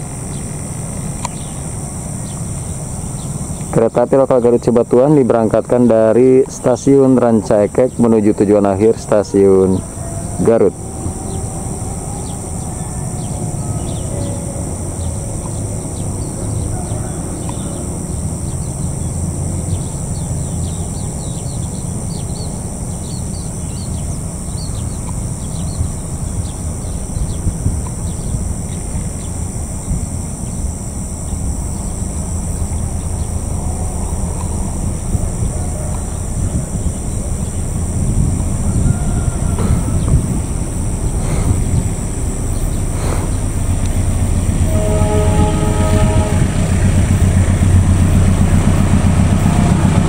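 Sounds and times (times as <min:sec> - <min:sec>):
birds chirping: 0:00.0 - 0:50.0
high-pitched insect drone: 0:00.0 - 0:50.0.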